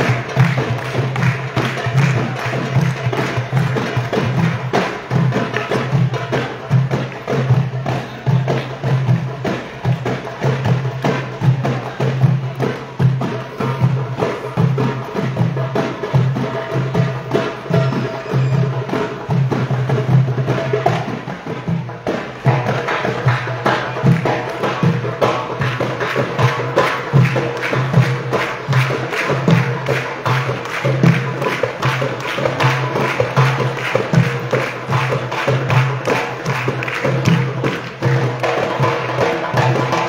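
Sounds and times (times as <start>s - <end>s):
hand drums playing a rhythm: 0.0s - 40.0s.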